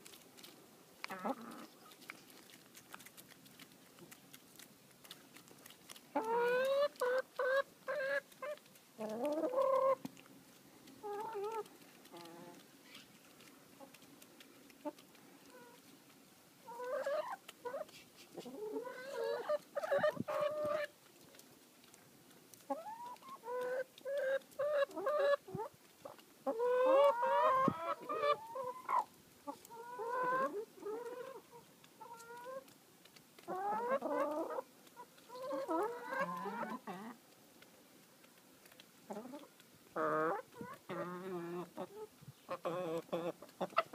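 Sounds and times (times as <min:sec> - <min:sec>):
hens clucking: 0:01.0 - 0:03.0, 0:05.0 - 0:15.9, 0:16.6 - 0:21.0, 0:22.7 - 0:32.7, 0:33.4 - 0:37.2, 0:39.1 - 0:43.9.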